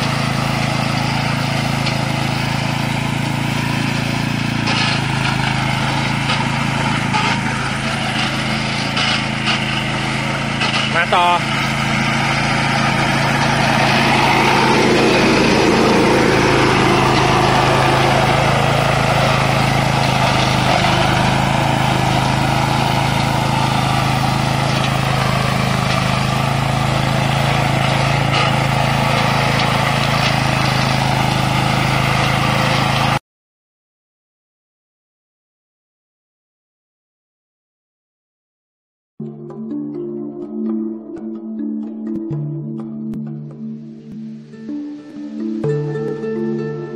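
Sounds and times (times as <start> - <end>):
lawn mower engine running: 0.0 - 33.2, 39.2 - 46.9.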